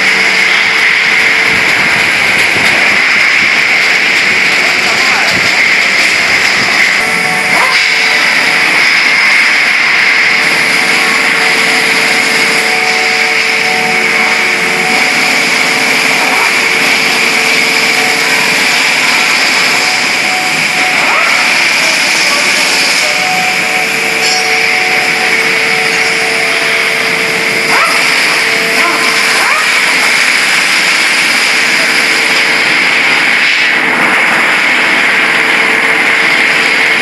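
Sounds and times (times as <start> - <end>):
machinery hiss: 0.0 - 37.0.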